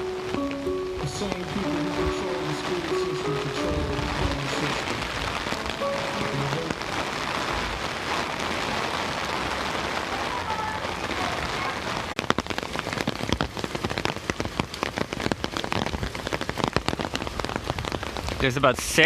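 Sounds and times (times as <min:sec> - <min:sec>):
heavy rain hissing: 0:00.0 - 0:19.0
raindrops spattering near microphone: 0:00.0 - 0:19.0.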